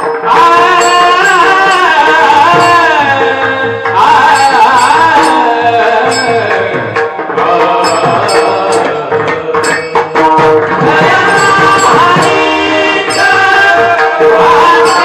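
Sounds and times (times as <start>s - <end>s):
drum strokes: 0.0s - 15.0s
person singing devotional melody: 0.0s - 15.0s
ringing hand cymbals: 0.0s - 15.0s.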